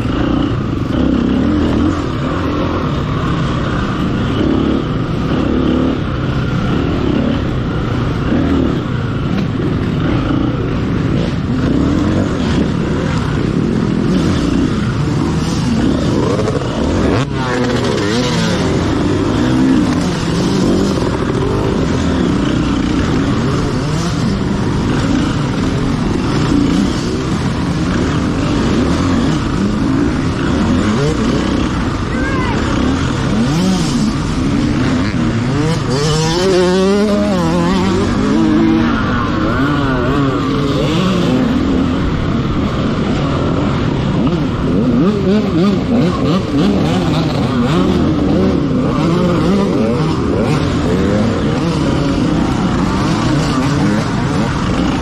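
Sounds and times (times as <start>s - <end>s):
off-road motorcycle engine revving: 0.0s - 55.0s.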